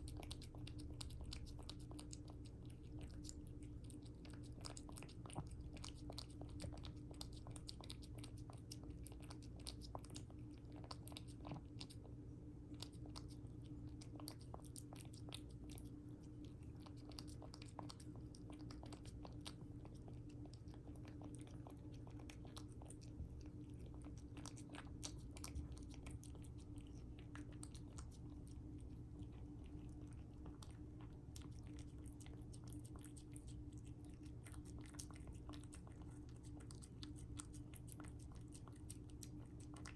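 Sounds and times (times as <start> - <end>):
cat chewing: 0.0 - 39.9
steady low hum: 0.0 - 39.9.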